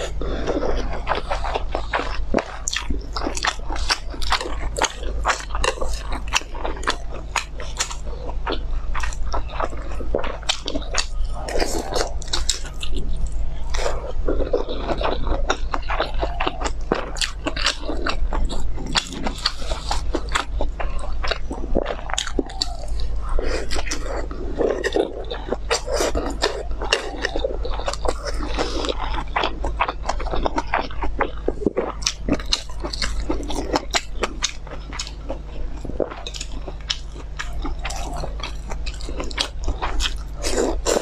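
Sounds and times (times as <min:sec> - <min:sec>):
low hum: 0:00.0 - 0:41.0
person chewing food: 0:00.0 - 0:41.0.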